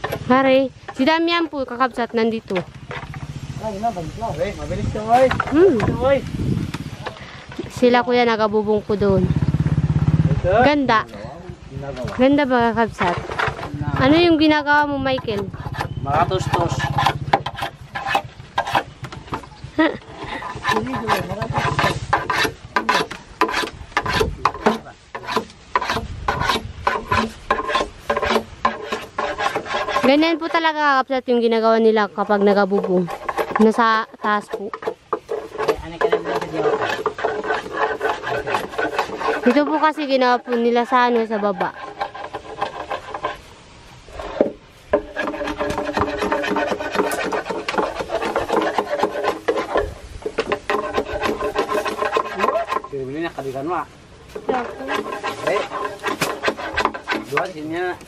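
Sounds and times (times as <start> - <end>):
hand tool rasping on wood: 0.0 - 6.1, 12.0 - 43.5, 44.1 - 53.7, 54.3 - 58.0.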